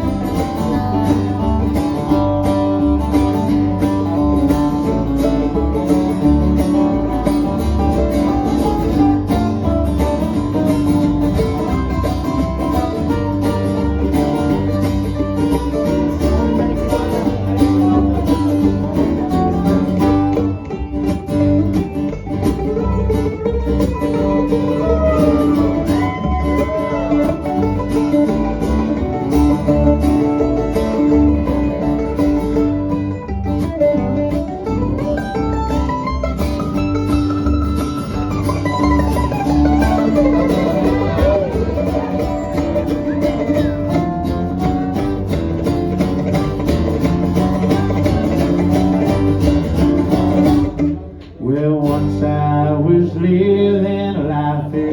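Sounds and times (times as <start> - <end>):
guitar lead: 0.0 - 54.9
string band country gospel music: 0.0 - 54.9.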